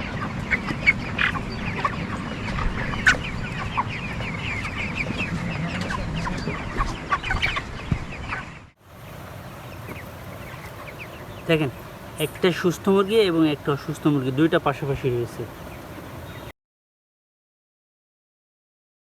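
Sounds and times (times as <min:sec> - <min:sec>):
chickens peeping and clucking: 0:00.0 - 0:16.5.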